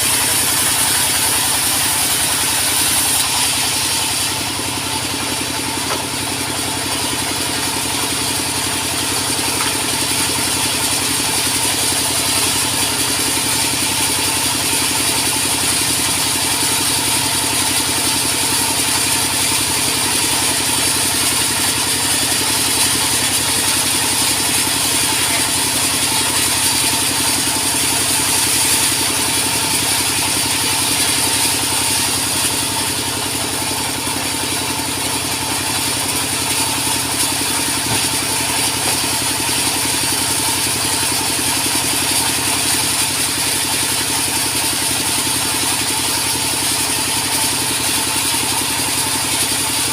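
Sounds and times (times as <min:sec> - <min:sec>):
sawmill machinery drone: 0:00.0 - 0:49.9.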